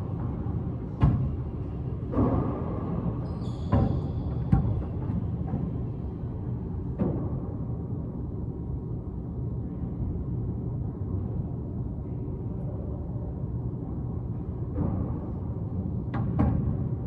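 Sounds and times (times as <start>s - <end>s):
low room noise rumble: 0.0s - 17.0s.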